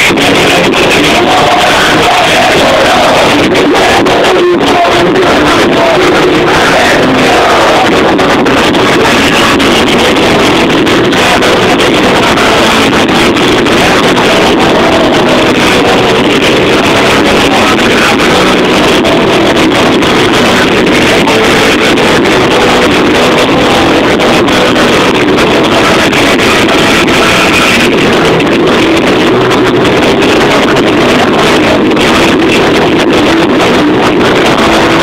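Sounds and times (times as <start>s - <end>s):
distorted live band music: 0.0s - 35.0s.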